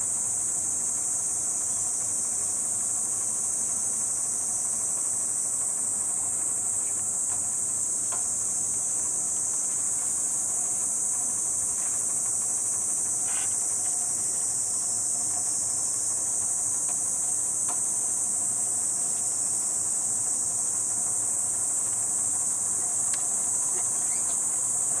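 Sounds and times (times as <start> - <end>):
cicada chorus drone: 0.0 - 25.0.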